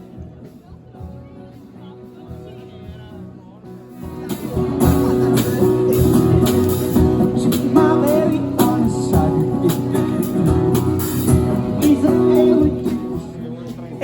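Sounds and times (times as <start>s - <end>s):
music with beat and guitar: 0.0s - 14.0s.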